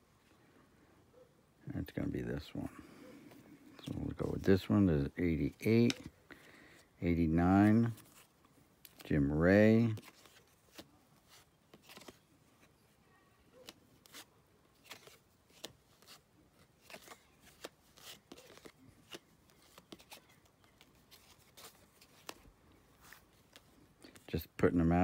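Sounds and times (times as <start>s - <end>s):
cardboard cards handled and slid: 2.6s - 25.0s.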